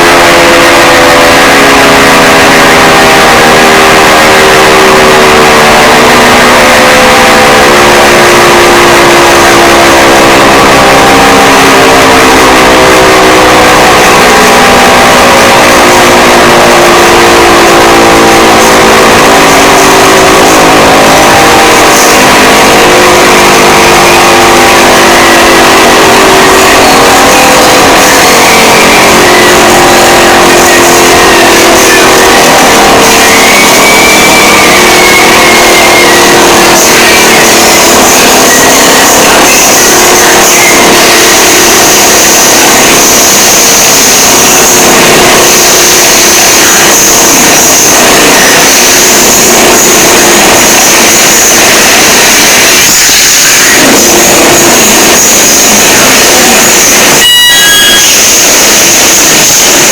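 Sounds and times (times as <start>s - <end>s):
distorted electronic alarm tones: 0.0s - 59.9s
harsh buzzing noise: 0.0s - 59.9s.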